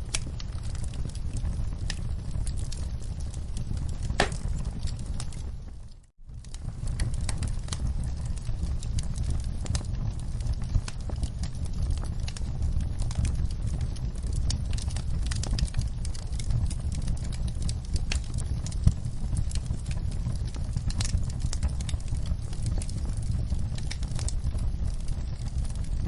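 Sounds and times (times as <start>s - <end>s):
low rumble of flames: 0.0s - 26.0s
wood fire crackling: 0.0s - 26.0s.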